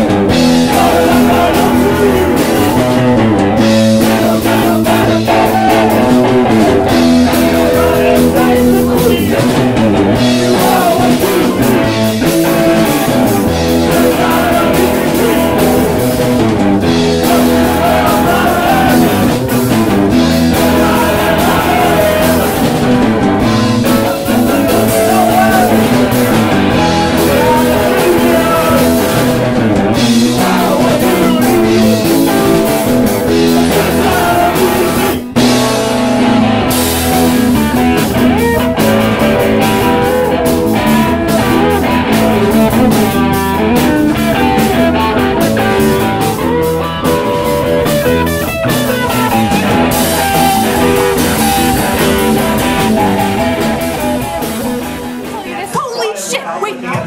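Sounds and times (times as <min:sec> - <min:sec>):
person shouting singing: 0:00.0 - 0:35.4, 0:38.2 - 0:46.5, 0:49.1 - 0:54.8
electric guitar: 0:00.0 - 0:55.6
drum kit: 0:00.0 - 0:55.8.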